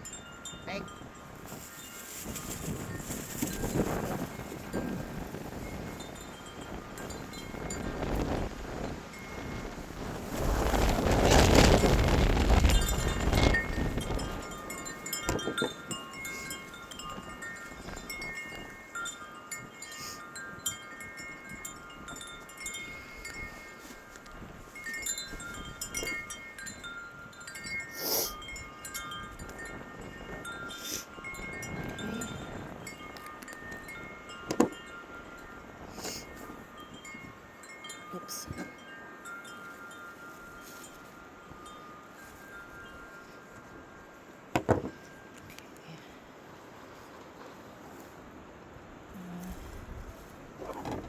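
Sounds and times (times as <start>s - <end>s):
wind chimes ringing: 0.0s - 10.0s, 11.4s - 46.6s.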